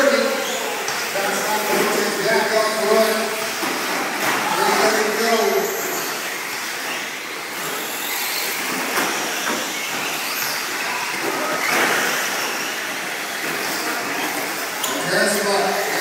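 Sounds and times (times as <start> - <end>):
rc car motors and tyres: 0.1 - 16.0.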